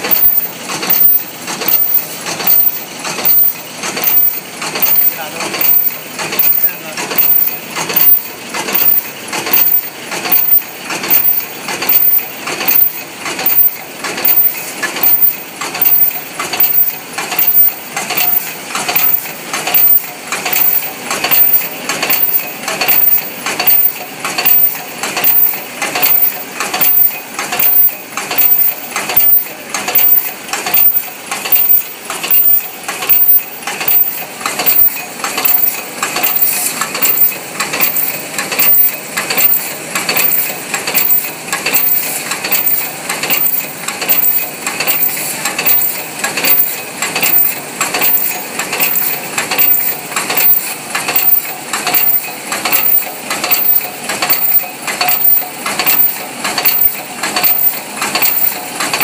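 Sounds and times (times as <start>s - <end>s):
machine clattering and clinking: 0.0s - 59.0s.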